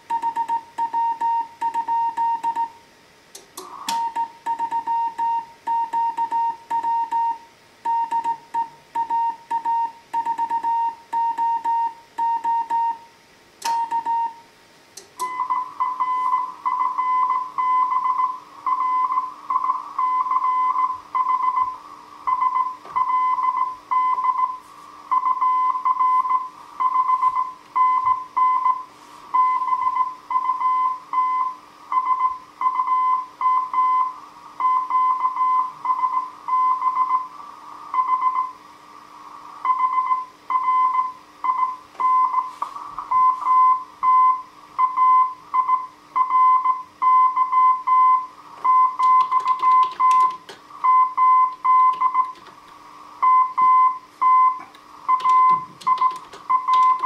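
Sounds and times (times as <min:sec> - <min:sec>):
faint low hum: 0:00.0 - 0:57.0
morse code beeps: 0:00.1 - 0:02.8, 0:03.7 - 0:14.4, 0:15.2 - 0:37.3, 0:38.0 - 0:38.5, 0:39.7 - 0:52.5, 0:53.2 - 0:57.0.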